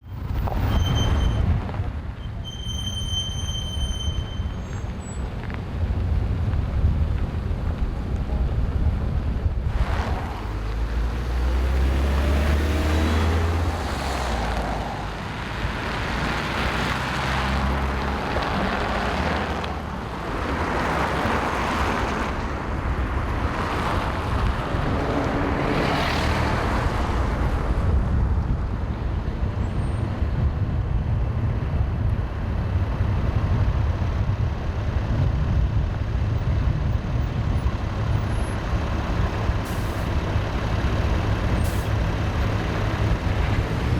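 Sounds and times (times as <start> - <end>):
passing vehicles: 0.0 - 43.9.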